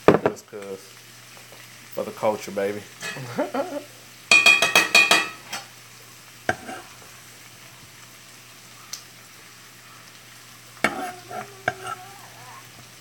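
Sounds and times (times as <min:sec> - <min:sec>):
hash sizzling in a skillet: 0:00.0 - 0:13.0.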